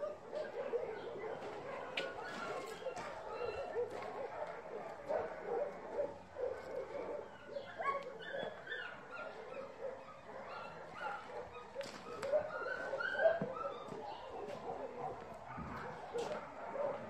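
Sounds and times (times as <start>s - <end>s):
dogs whining and yipping: 0.0s - 17.0s.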